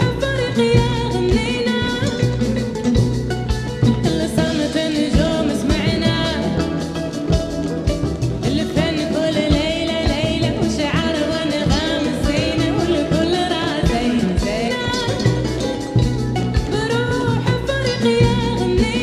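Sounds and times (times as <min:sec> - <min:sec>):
person singing: 0:00.0 - 0:02.6, 0:04.0 - 0:07.2, 0:08.4 - 0:16.0, 0:16.6 - 0:19.0
steady drum beat: 0:00.0 - 0:19.0.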